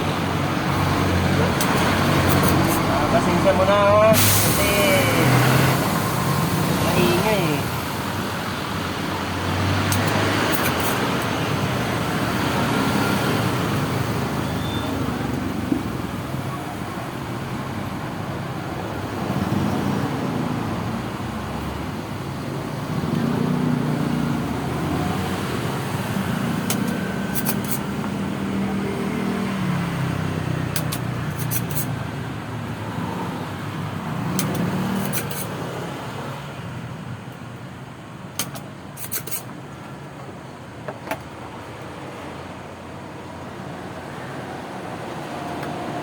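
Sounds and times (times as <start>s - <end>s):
vehicles passing: 0.0s - 46.0s.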